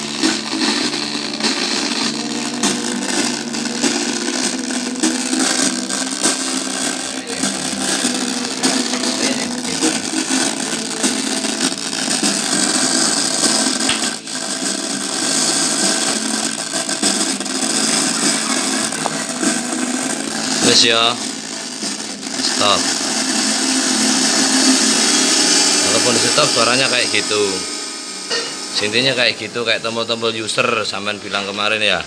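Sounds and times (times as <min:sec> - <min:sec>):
harsh noisy electronic buzz: 0:00.0 - 0:32.0.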